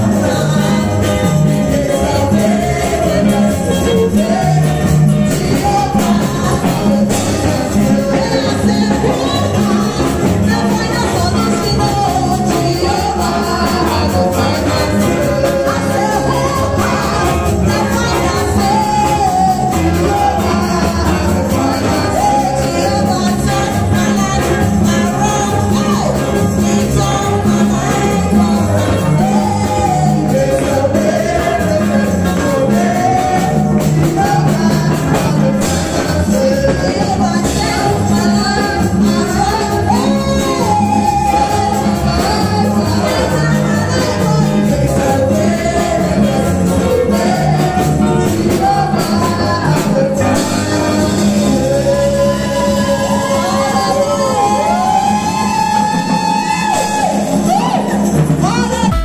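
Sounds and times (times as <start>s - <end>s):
music with busy beat and bass: 0.0s - 59.0s
woman singing into a microphone: 0.0s - 59.0s.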